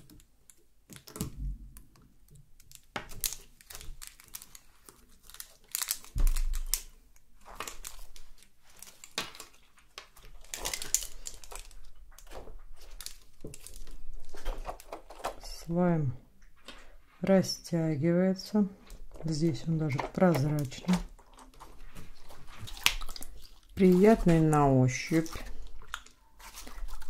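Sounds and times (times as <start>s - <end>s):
slime clicking and crackling: 0.0s - 15.3s, 19.2s - 27.0s.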